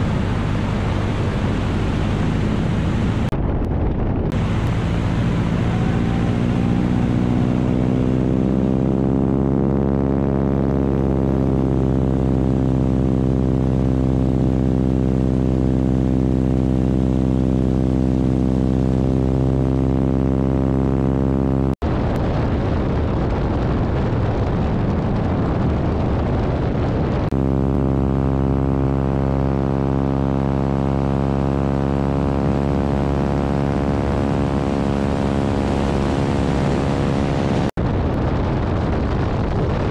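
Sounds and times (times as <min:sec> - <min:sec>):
wind noise on microphone: 0:00.0 - 0:19.7, 0:21.3 - 0:39.9
propeller plane engine droning: 0:00.0 - 0:39.9.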